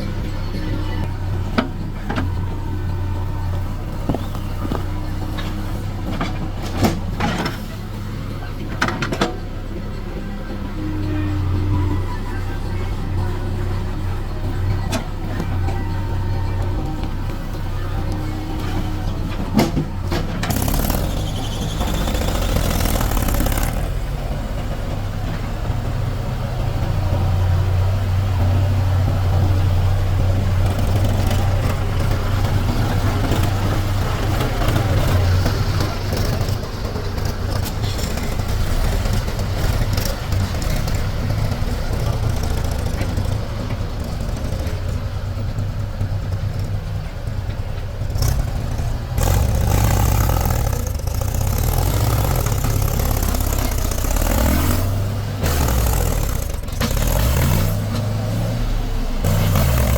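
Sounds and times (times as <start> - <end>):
heavy diesel machinery engine humming: 0.0 - 59.9.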